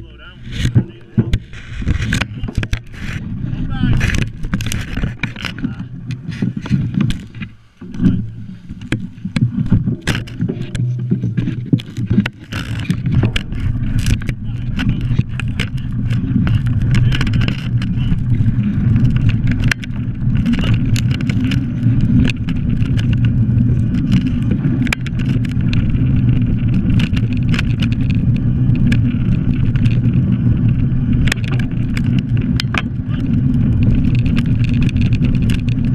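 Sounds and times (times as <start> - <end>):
grit and bike rattling: 0.0 - 35.9
bike tyre rolling over gravel: 0.1 - 35.9.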